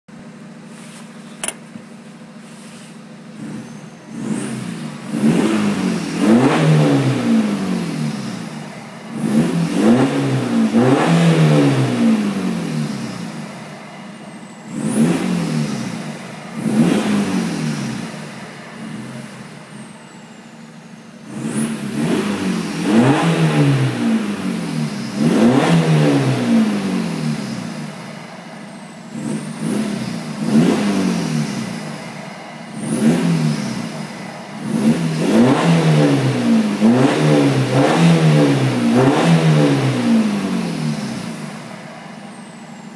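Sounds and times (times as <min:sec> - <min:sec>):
diesel engine revving: 0:02.4 - 0:42.9.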